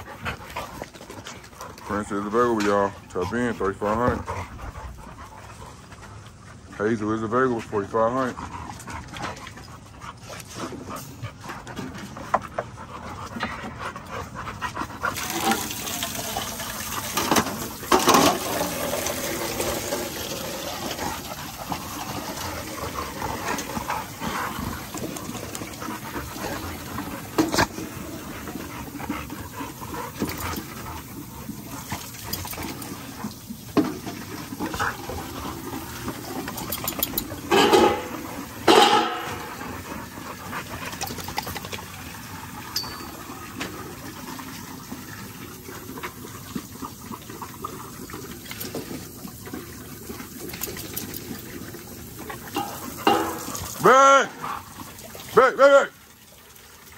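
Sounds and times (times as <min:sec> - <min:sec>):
dogs panting: 0:00.0 - 0:55.3
dogs lapping water from metal pail: 0:00.0 - 0:56.9.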